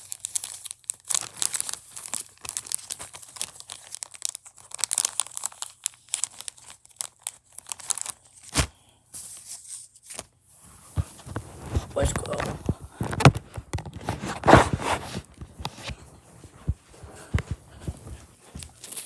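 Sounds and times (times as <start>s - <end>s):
plastic bag crinkling: 0.0s - 8.5s, 11.1s - 19.0s.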